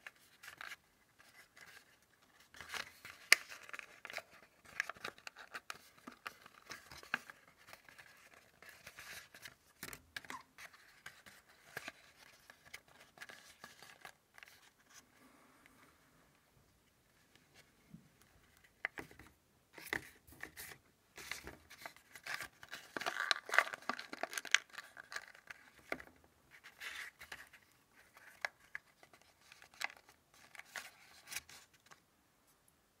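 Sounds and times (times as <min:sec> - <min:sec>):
paper crinkling and crackling: 0:00.0 - 0:15.0, 0:19.8 - 0:32.0.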